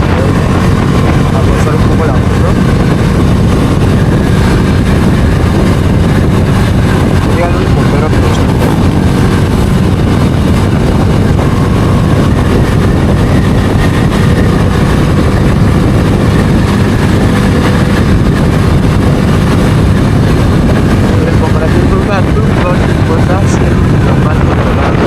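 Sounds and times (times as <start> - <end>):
motorcycle engine running: 0.0 - 25.0
wind on microphone: 0.0 - 25.0.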